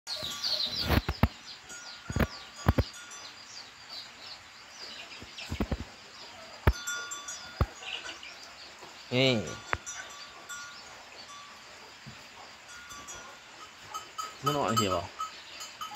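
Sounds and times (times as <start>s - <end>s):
birds chirping: 0.1s - 15.9s.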